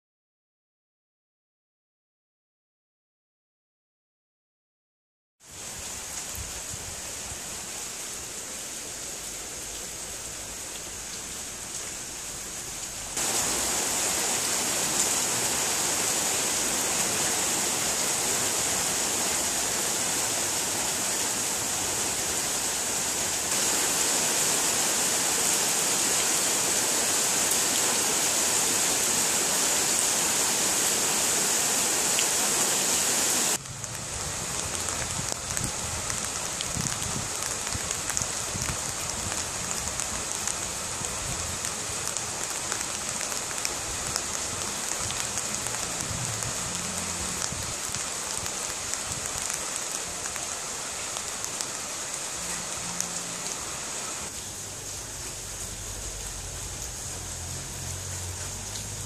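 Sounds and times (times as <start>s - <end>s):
heavy rain pouring: 5.4s - 59.0s
raindrops pattering on surfaces: 5.4s - 59.0s.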